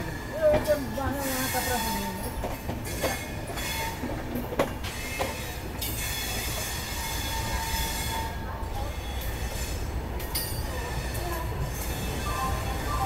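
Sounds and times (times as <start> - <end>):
train rumbling on the track: 0.0 - 13.0
wheels clacking over rail joints: 0.0 - 13.0.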